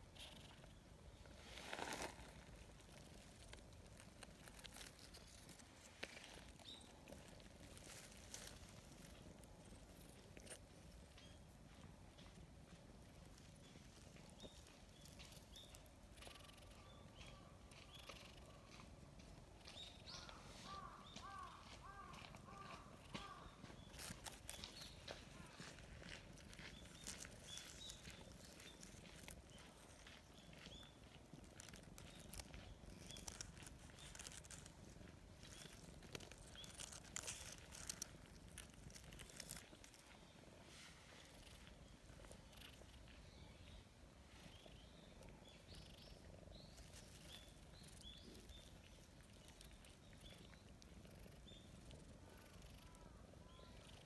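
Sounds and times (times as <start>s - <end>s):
hand stroking cat in dry leaves: 0.0s - 54.0s.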